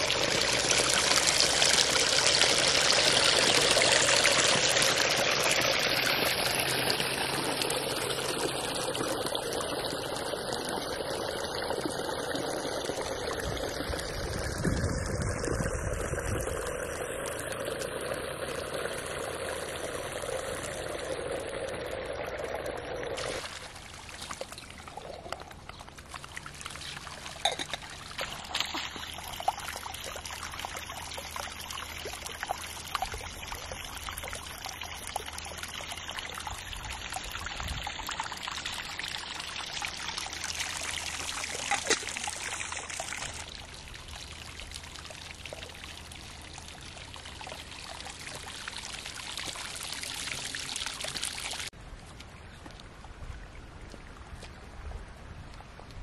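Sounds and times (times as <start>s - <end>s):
water pouring and trickling: 0.0s - 51.8s.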